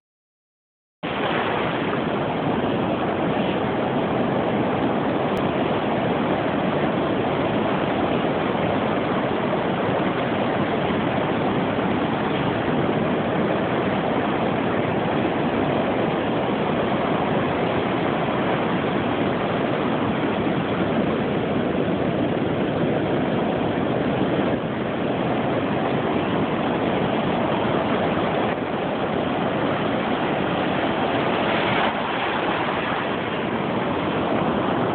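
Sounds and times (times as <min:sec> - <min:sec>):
heavy surf breaking waves: 0:01.0 - 0:34.9.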